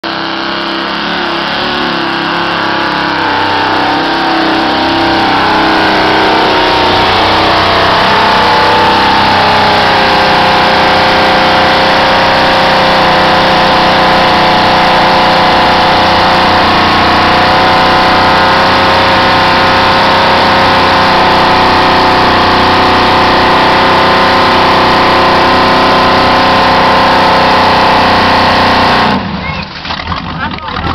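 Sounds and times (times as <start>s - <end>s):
truck engine revving hard: 0.0s - 29.5s
truck churning through mud: 0.0s - 30.9s.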